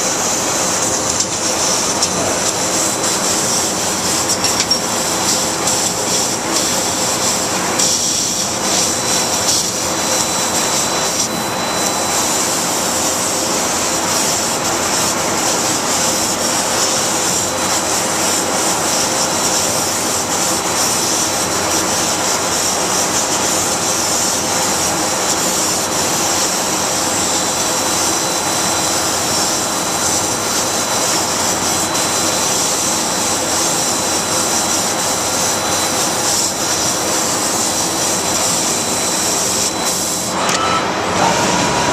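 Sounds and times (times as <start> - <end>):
laser cutting machine hissing: 0.0 - 41.9
thin high whine: 0.0 - 41.9.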